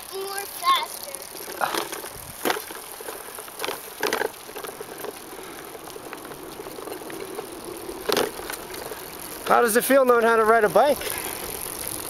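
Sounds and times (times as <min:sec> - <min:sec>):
bicycle tyres rolling on road: 0:00.0 - 0:12.0
light rattling: 0:00.2 - 0:12.0.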